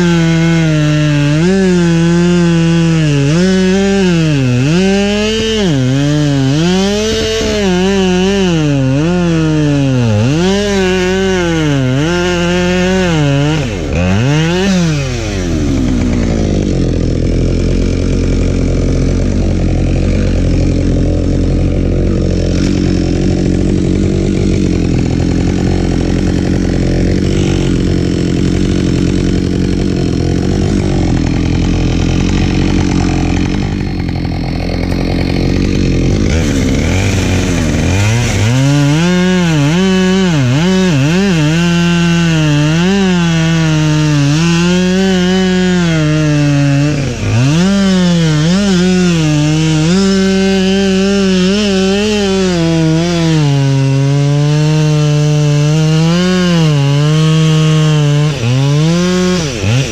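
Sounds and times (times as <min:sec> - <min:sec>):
chainsaw running hard: 0:00.0 - 0:59.9.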